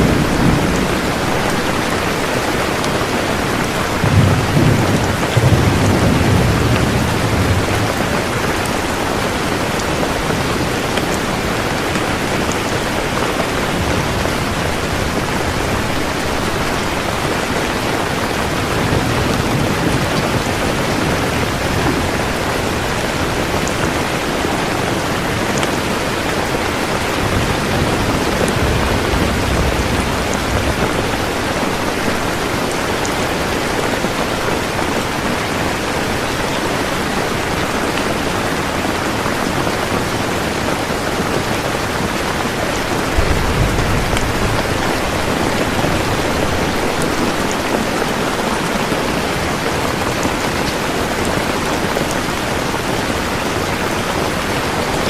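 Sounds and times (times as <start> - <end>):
thunder rumbling: 0.0 - 39.0, 39.6 - 55.0
heavy rain hissing: 0.0 - 55.0.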